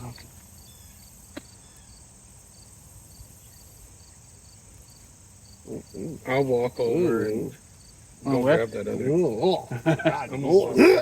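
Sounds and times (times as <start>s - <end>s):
crickets chirping: 0.0s - 11.0s
insects buzzing: 0.0s - 11.0s.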